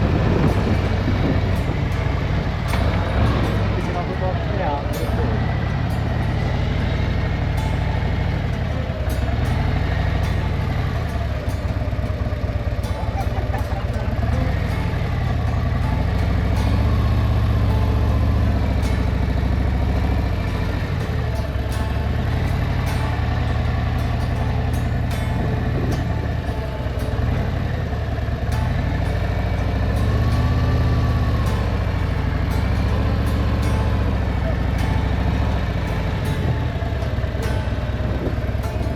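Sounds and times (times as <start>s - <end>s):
motorcycle engine rumbling: 0.0s - 38.9s
wind and road noise: 0.0s - 38.9s.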